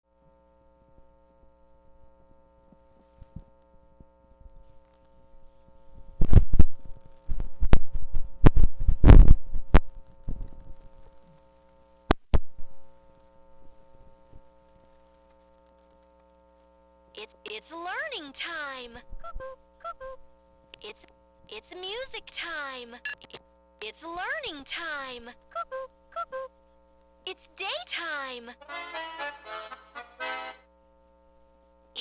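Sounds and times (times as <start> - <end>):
steady electrical hum: 0.1 - 32.0.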